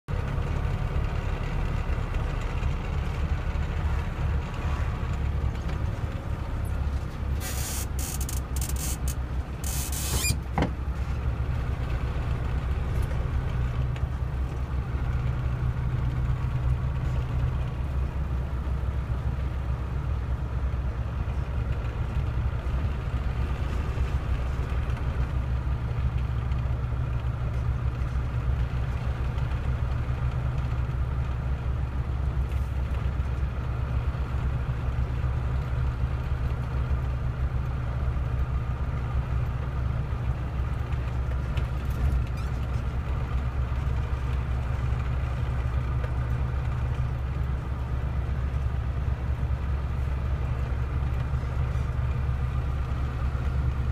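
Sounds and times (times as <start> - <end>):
low engine drone: 0.1 - 53.9
road noise: 0.1 - 53.9.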